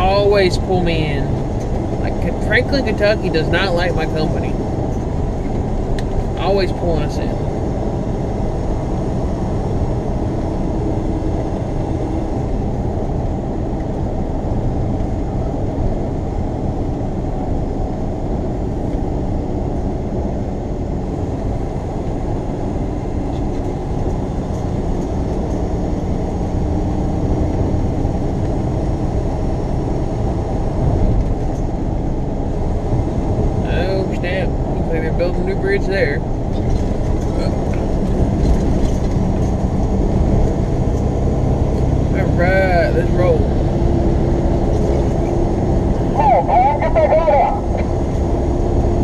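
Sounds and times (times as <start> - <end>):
truck engine and tyre drone: 0.0 - 49.0.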